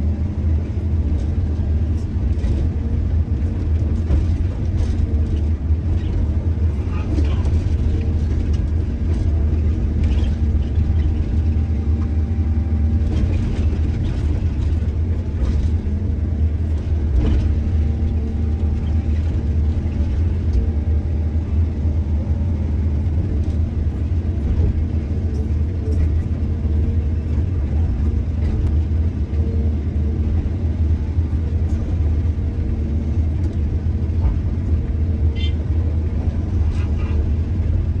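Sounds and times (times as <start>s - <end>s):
diesel engine low rumble: 0.0s - 38.0s.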